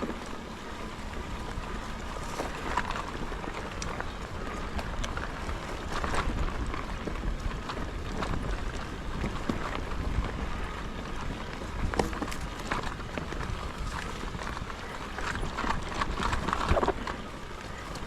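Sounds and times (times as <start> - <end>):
bike clicks and rattles: 0.0 - 18.0
wind rumble on microphone: 0.0 - 18.0.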